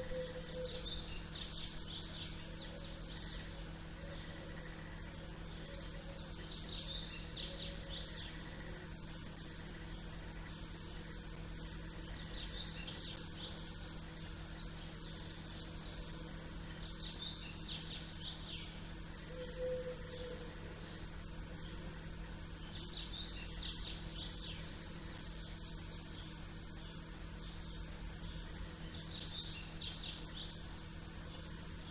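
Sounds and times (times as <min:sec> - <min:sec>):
low background hum: 0:00.0 - 0:31.9
songbirds chirping: 0:00.0 - 0:31.9.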